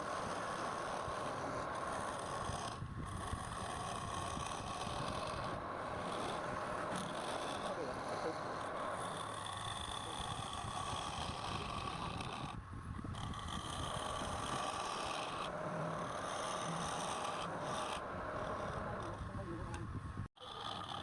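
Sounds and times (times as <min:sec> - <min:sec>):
wood lathe running: 0:00.0 - 0:19.8, 0:20.4 - 0:21.0
turning tool scraping wood: 0:00.0 - 0:21.0.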